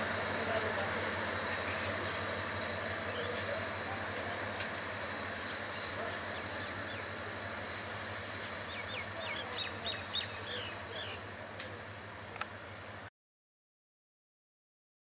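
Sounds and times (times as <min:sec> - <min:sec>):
train wheels rumbling on rails: 0:00.0 - 0:13.1.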